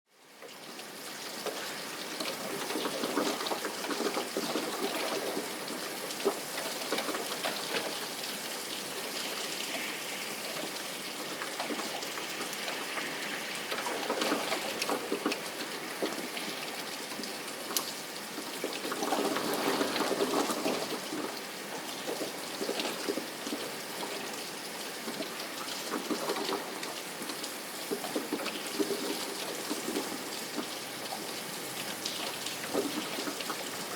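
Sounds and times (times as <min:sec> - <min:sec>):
steady rain: 0:00.1 - 0:33.9.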